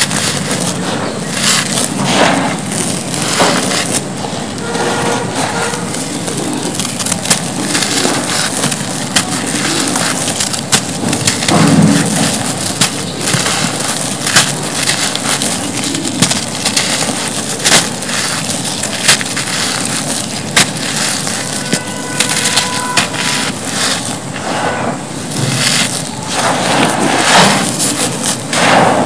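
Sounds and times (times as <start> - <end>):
hands crumbling dry cement: 0.0 - 4.6, 5.8 - 29.0
grit sifting onto pile: 0.0 - 29.0.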